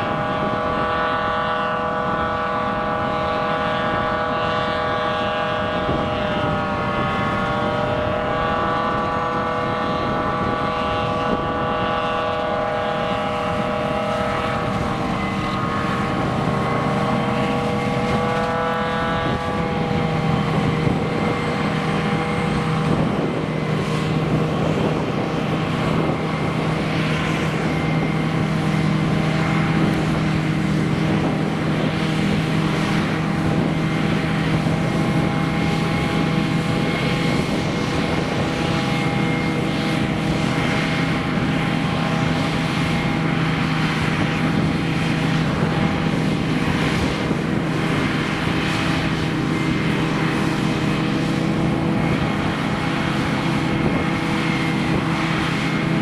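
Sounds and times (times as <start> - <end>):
diesel machinery running: 0.0 - 56.0
high wavering whine: 0.0 - 56.0.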